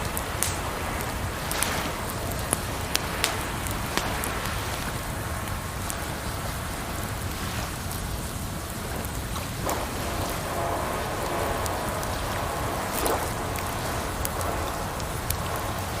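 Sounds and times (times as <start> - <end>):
running water: 0.0 - 16.0
water splashing: 0.0 - 16.0
wood fire crackling: 0.0 - 16.0.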